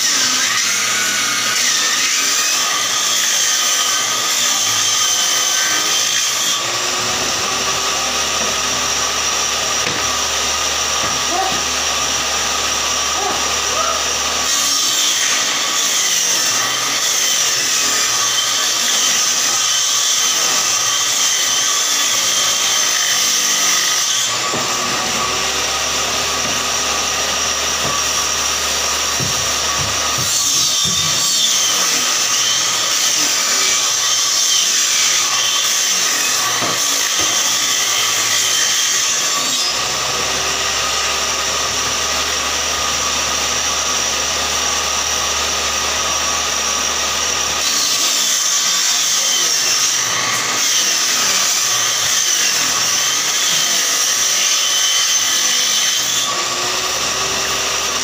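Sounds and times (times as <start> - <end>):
saw cutting wood: 0.0 - 58.0
table saw whine: 0.0 - 58.0.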